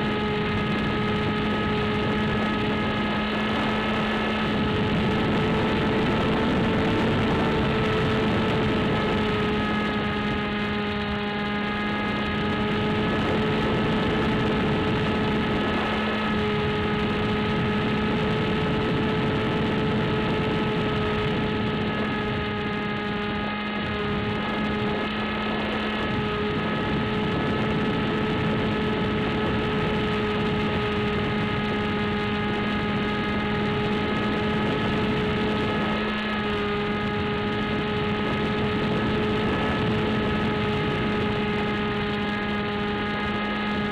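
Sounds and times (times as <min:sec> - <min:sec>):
electric motor and propeller: 0:00.0 - 0:43.9
wind noise: 0:00.0 - 0:43.9.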